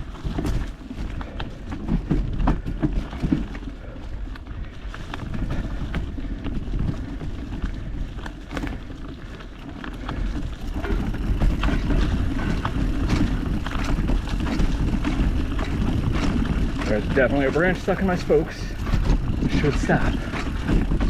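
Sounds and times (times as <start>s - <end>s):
bike clicks and rattles: 0.0s - 21.0s
tyres rumbling on dirt: 0.0s - 21.0s.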